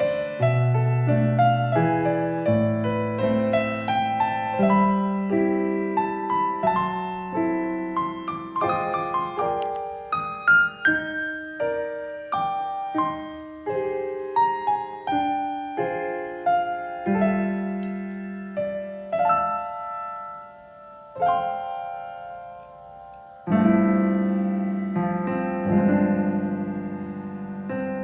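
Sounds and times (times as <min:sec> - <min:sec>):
gentle piano melody: 0:00.0 - 0:28.0.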